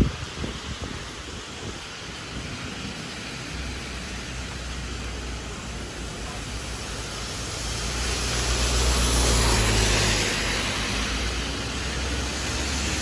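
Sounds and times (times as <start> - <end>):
rain hissing: 0.0 - 13.0
vehicle on wet road: 0.0 - 13.0.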